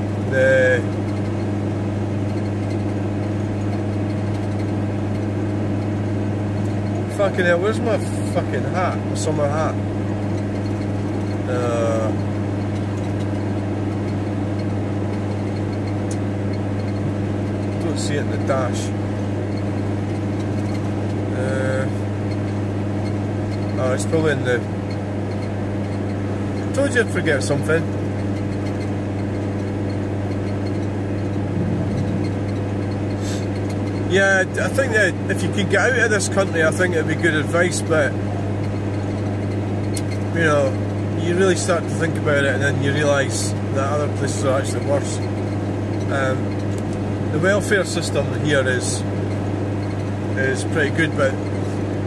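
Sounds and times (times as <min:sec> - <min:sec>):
van engine droning: 0:00.0 - 0:52.0.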